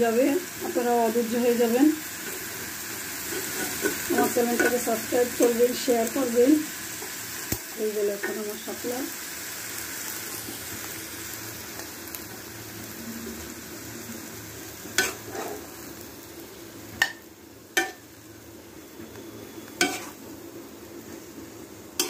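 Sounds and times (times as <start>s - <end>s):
curry sizzling in a pan: 0.0s - 22.0s.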